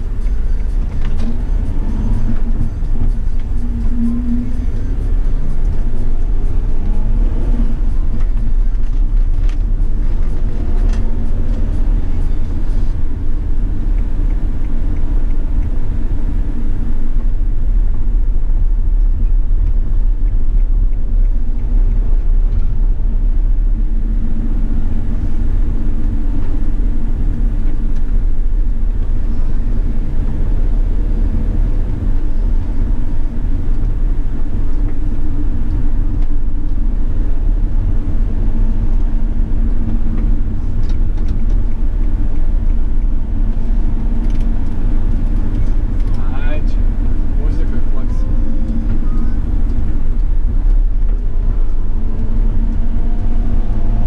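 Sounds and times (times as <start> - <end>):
minibus engine and road rumble: 0.0 - 54.0.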